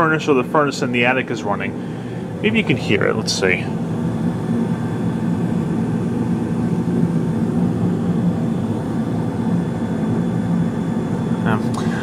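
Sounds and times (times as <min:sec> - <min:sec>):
gas furnace humming: 0:00.0 - 0:12.0.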